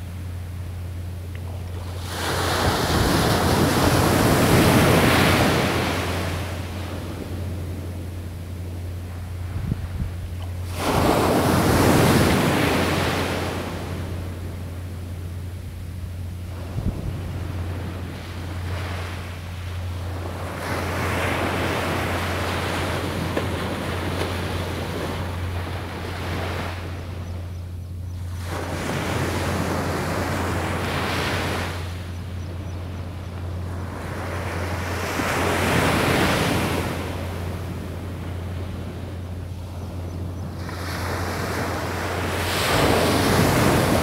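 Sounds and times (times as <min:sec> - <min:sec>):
steady low hum: 0:00.0 - 0:44.0
ocean surf breaking on beach: 0:01.7 - 0:08.4, 0:09.0 - 0:14.8, 0:16.4 - 0:27.1, 0:28.3 - 0:32.0, 0:33.6 - 0:39.1, 0:40.4 - 0:44.0.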